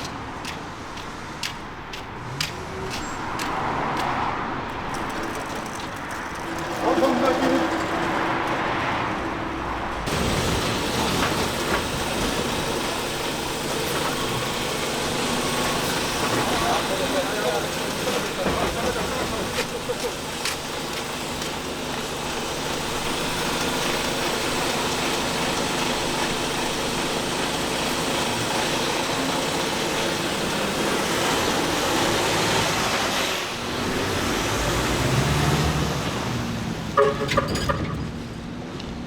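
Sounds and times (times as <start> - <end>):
truck engine running: 0.0 - 37.4.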